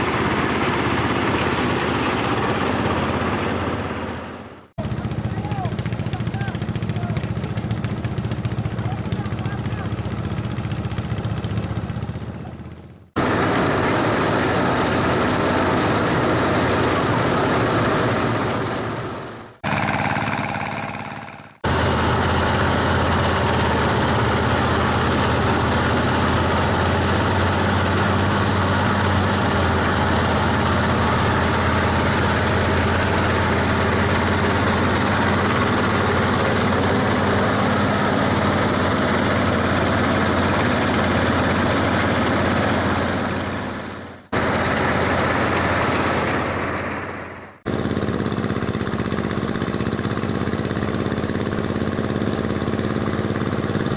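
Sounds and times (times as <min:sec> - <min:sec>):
harvesting machine engine running: 0:00.0 - 0:53.9.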